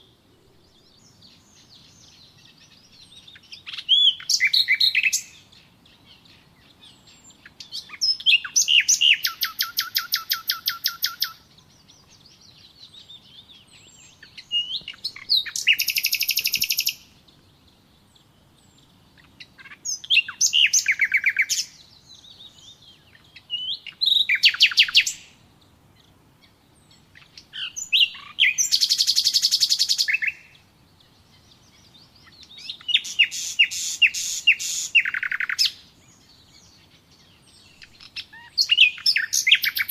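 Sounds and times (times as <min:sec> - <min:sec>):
songbird trilling: 0:00.0 - 0:25.4, 0:26.0 - 0:39.9
faint bird chirps: 0:00.0 - 0:39.9.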